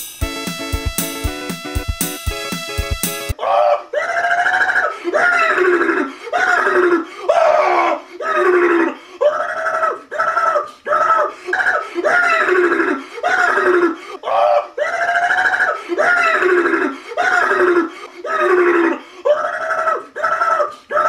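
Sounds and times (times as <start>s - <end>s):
man wailing in pain: 3.4s - 21.0s.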